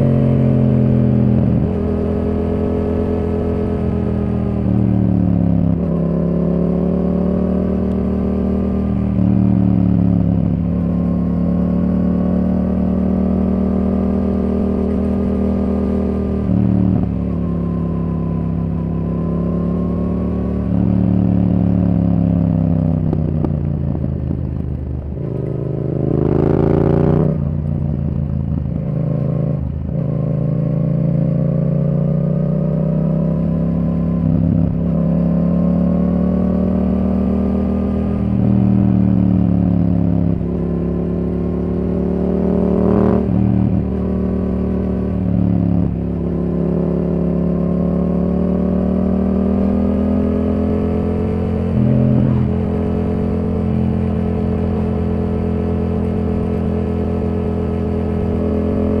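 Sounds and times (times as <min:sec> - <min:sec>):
engine rev: 0:00.0 - 0:23.5, 0:25.0 - 0:27.8, 0:28.5 - 0:59.0.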